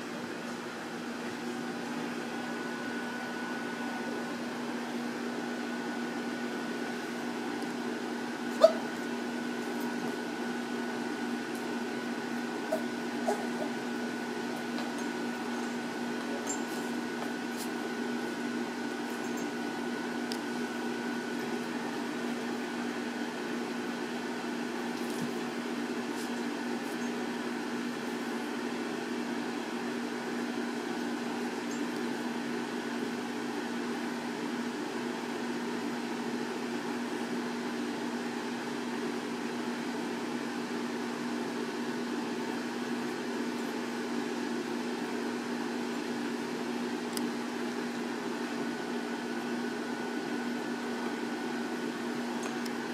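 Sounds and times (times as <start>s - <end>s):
mechanical hum: 0.0s - 52.9s.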